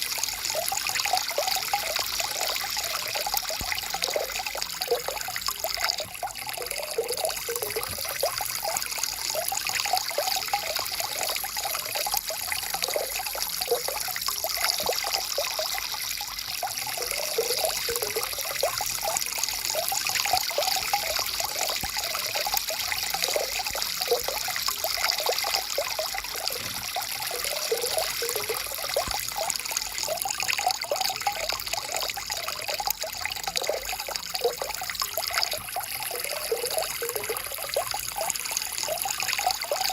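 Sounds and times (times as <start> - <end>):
stream water flowing and trickling: 0.0 - 39.9.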